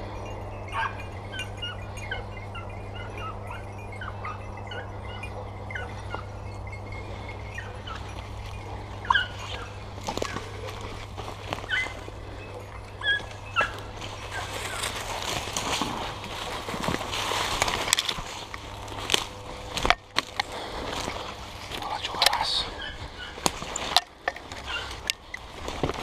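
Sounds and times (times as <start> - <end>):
puppies yelping and whining: 0.0 - 26.0
rustling brush and snapping twigs: 0.6 - 26.0.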